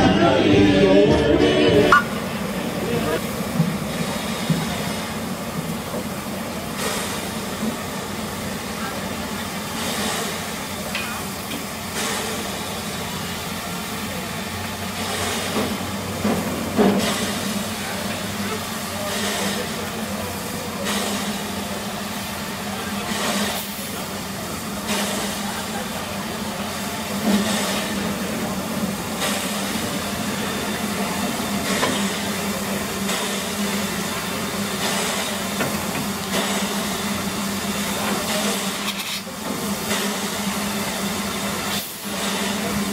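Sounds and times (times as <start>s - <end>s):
steam locomotive chuffing: 0.0s - 42.9s
steam hissing: 1.9s - 42.9s.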